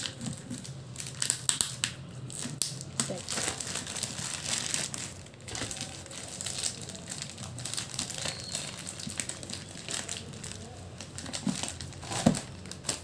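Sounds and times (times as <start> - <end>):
packaging tearing and crinkling: 0.0 - 13.0.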